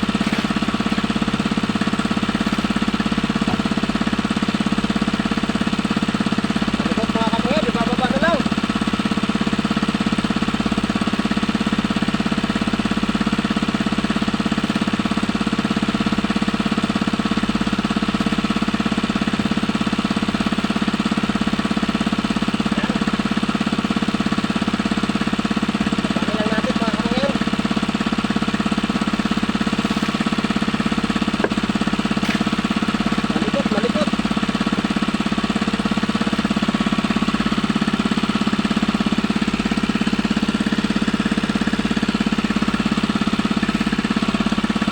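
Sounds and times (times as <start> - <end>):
small engine running: 0.0 - 44.9.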